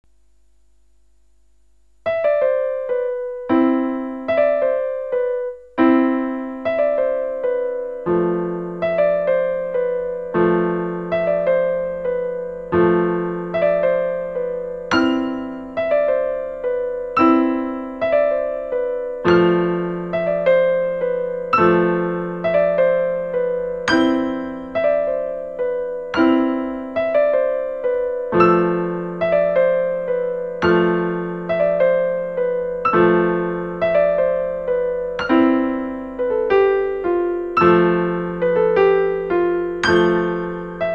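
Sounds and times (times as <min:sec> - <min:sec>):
solo piano music: 0:02.0 - 0:40.9.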